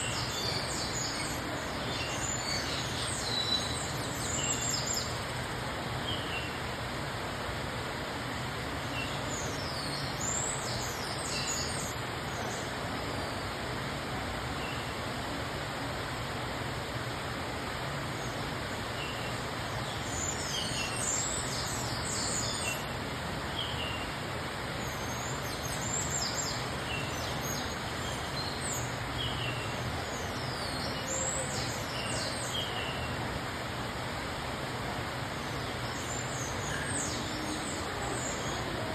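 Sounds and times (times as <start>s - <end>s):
background hiss and hum: 0.0s - 38.9s.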